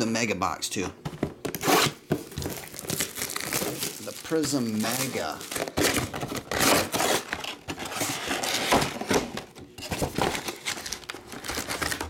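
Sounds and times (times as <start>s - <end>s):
cardboard rustling and scraping: 1.1s - 12.0s.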